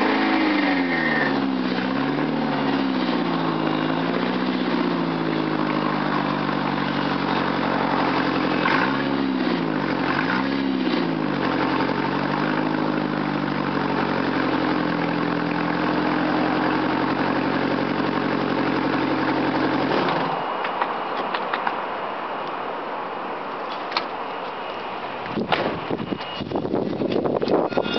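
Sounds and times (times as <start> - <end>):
car engine idling and revving: 0.0 - 27.6.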